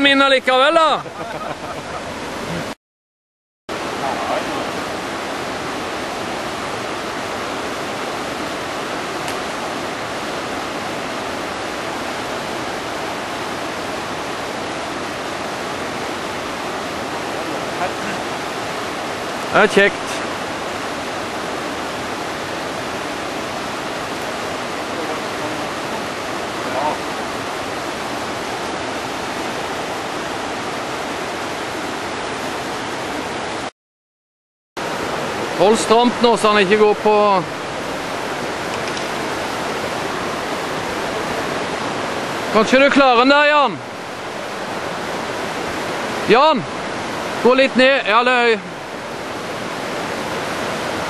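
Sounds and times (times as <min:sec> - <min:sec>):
river rushing over rapids: 0:00.0 - 0:02.8, 0:03.7 - 0:33.7, 0:34.8 - 0:51.0.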